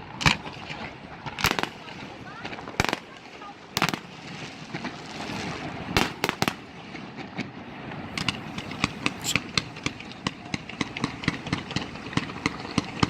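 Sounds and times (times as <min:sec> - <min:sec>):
firework bangs: 0:00.0 - 0:13.0
rapid firework pops: 0:01.2 - 0:03.2, 0:03.8 - 0:04.1, 0:04.7 - 0:13.0.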